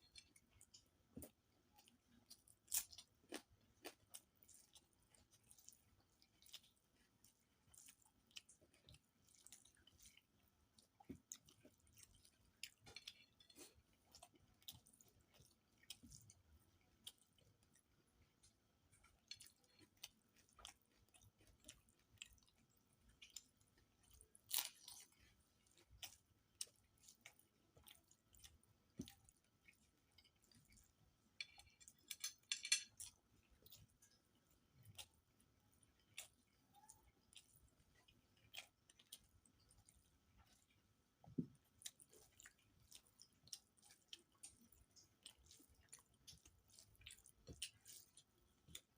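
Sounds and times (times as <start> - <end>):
chewing smacks and clicks: 0.0 - 40.9, 41.6 - 48.9.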